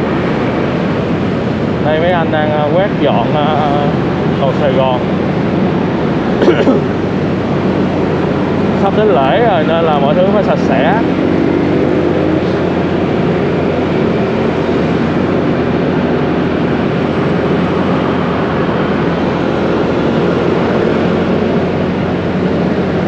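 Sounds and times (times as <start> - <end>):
traffic road noise: 0.0 - 23.0.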